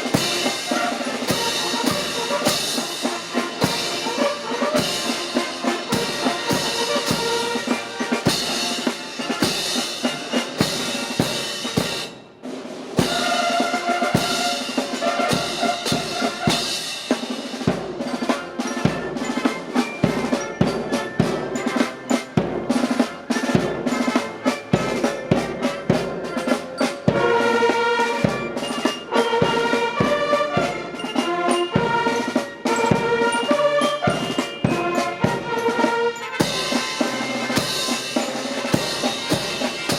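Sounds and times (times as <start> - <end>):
military marching band: 0.0 - 39.9
snare and bass drums: 0.0 - 39.9.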